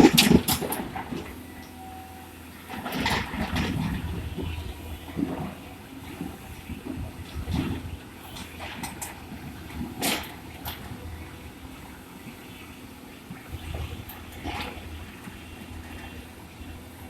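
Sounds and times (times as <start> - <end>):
excavator engine humming: 0.0 - 17.0.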